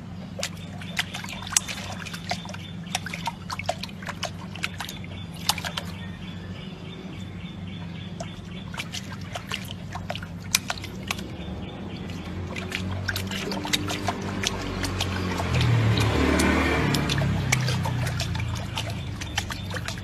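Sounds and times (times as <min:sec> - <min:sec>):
puppy splashing water: 0:00.0 - 0:06.4, 0:07.6 - 0:20.0
water dripping: 0:00.3 - 0:06.1, 0:07.9 - 0:20.0.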